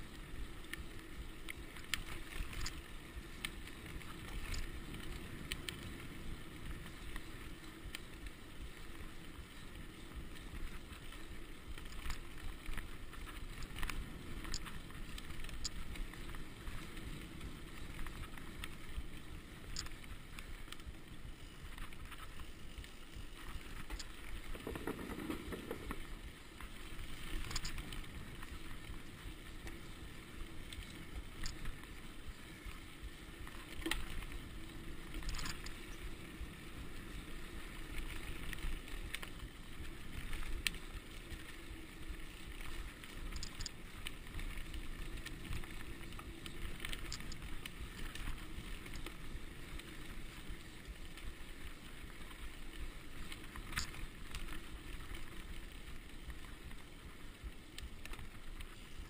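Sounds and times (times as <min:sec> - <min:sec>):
bike tyres rumbling on dirt: 0:00.0 - 0:59.0
bike rattling over bumps: 0:00.1 - 0:59.0.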